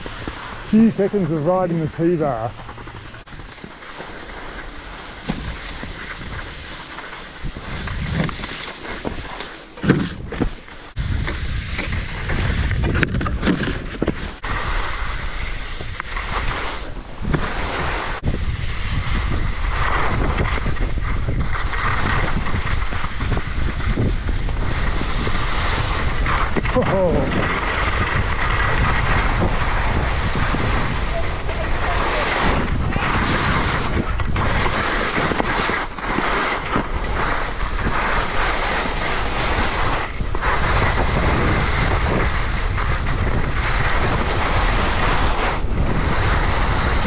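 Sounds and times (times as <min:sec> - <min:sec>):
wind rushing over microphone: 0:00.0 - 0:03.7, 0:04.4 - 0:47.0
skis scraping over snow: 0:00.0 - 0:47.0.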